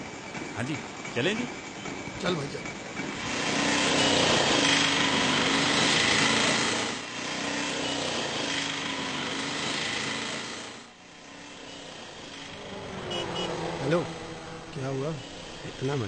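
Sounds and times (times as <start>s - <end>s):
auto-rickshaw engine pulling away: 0.0s - 16.0s.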